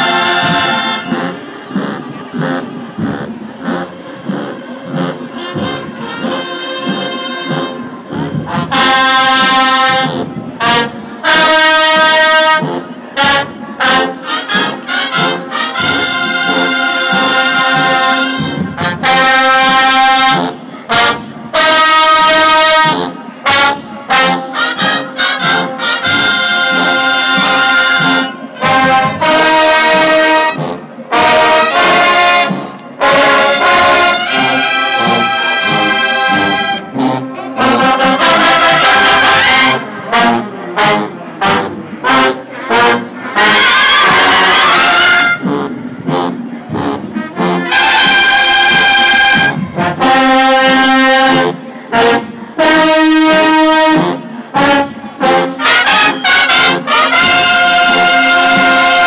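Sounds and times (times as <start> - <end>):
marching band brass chords: 0.0 - 59.0.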